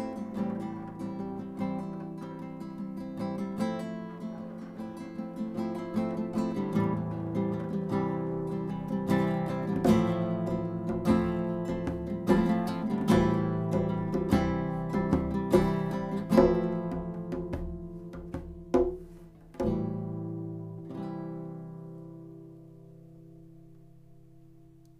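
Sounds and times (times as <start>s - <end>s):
acoustic guitar music: 0.0s - 24.9s.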